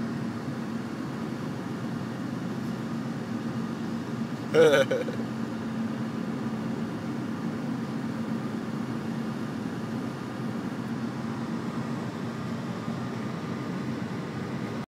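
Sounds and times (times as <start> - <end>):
car road and engine noise: 0.0 - 14.9.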